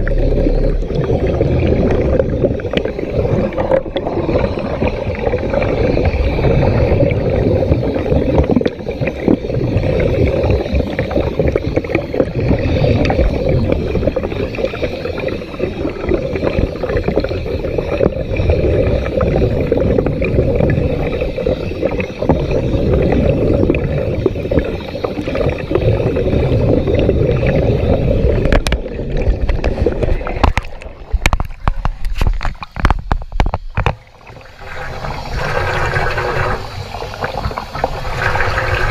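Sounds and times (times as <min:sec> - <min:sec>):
underwater rushing and gurgling water: 0:00.0 - 0:38.9.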